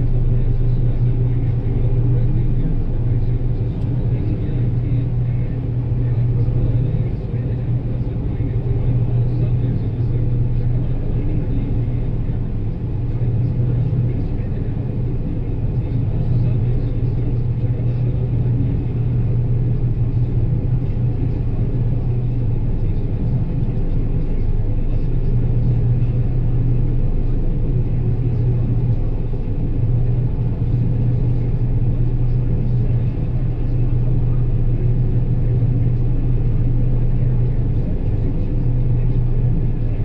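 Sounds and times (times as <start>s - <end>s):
combine harvester engine drone: 0.0s - 40.0s.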